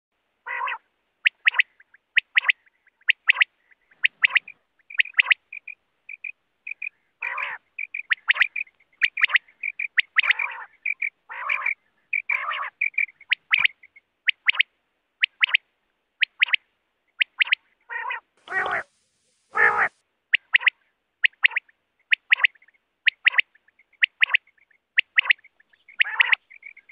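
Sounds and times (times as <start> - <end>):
quail calling: 0.4 - 15.6, 16.2 - 26.9.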